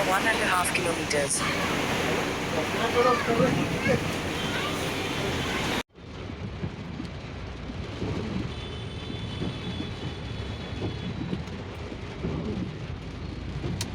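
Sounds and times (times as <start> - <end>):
car driving through heavy rain: 0.0 - 13.9.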